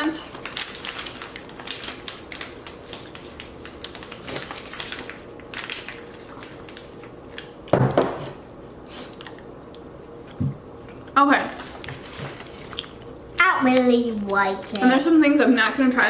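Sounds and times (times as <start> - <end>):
snack packaging crinkling: 0.1 - 9.8, 11.6 - 15.8.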